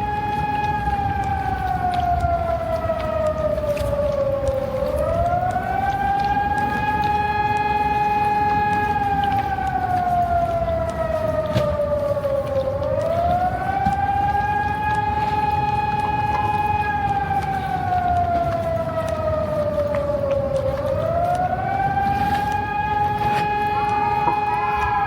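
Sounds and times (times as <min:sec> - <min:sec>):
electronic siren wailing: 0:00.0 - 0:25.0.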